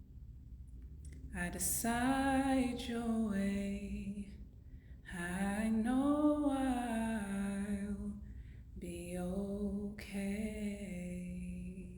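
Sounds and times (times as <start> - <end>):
solo voice singing held notes: 1.3 - 4.4, 5.1 - 11.9.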